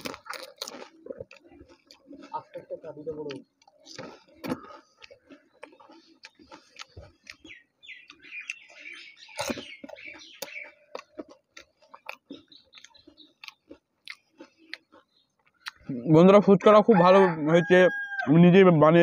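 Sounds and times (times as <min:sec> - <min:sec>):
mouth clicks: 0:00.0 - 0:16.1.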